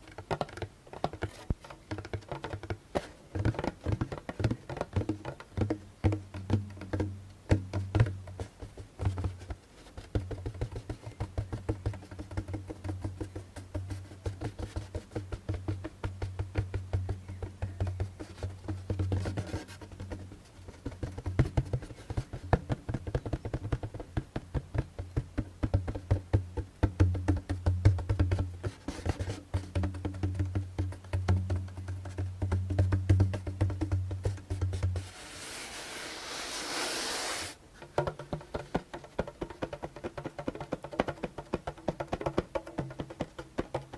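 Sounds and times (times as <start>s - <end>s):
hand drum tapped rapidly: 0.0s - 35.1s, 37.9s - 43.9s.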